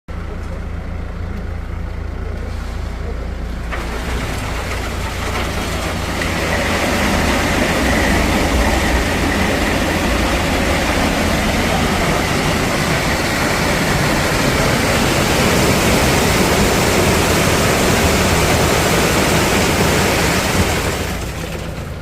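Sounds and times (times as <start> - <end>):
construction site noise: 0.1 - 22.0
heavy engine humming: 0.1 - 22.0.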